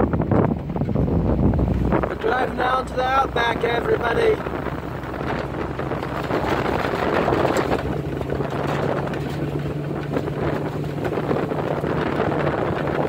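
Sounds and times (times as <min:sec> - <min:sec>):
vehicle engine running: 0:00.0 - 0:13.0
wind noise on microphone: 0:00.0 - 0:13.0.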